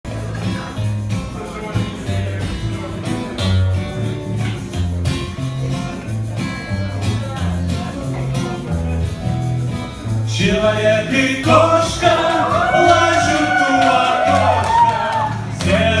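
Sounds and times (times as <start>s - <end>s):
guitar: 0.0s - 16.0s
bass line: 0.1s - 16.0s.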